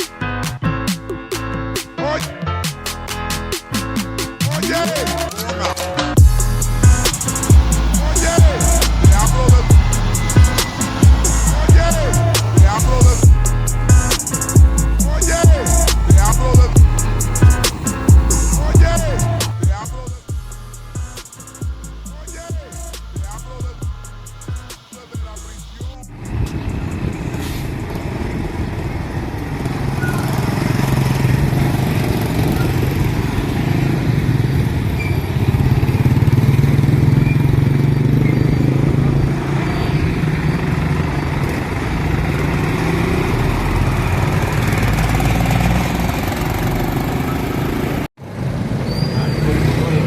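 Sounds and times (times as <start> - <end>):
diesel bus engine hum: 6.2 - 48.1.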